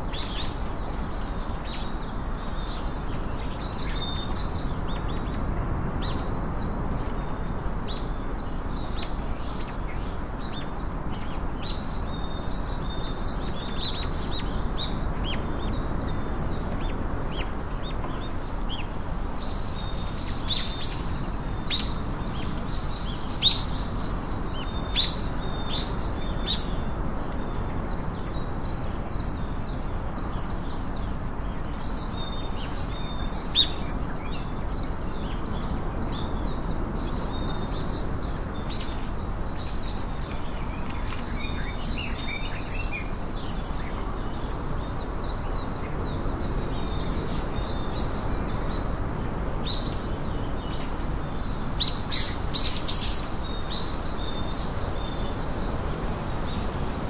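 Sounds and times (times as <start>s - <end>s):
birds chirping: 0.0s - 57.0s
steady low background noise: 0.0s - 57.0s.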